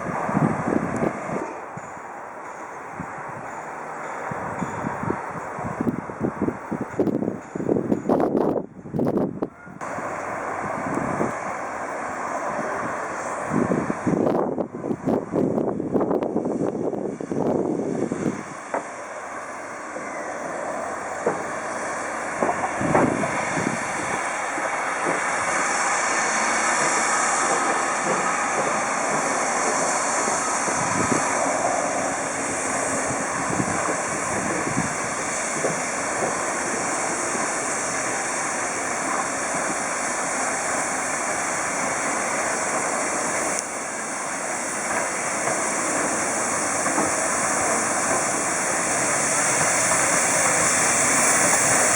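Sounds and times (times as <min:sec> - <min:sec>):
steam train running past: 0:00.0 - 0:51.9.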